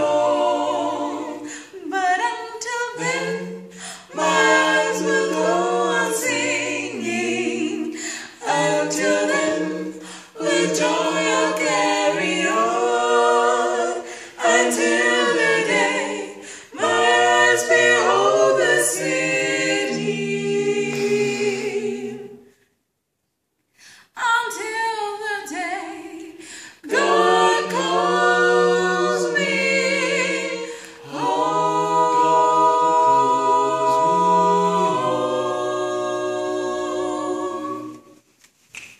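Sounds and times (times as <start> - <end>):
vocal quartet singing a hymn: 0.0 - 22.8, 23.8 - 38.9.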